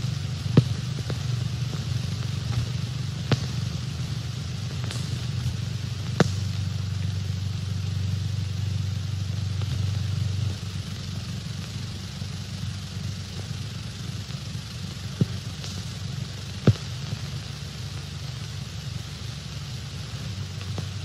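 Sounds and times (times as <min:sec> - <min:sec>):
film hiss: 0:00.0 - 0:21.0
low hum: 0:00.0 - 0:21.0.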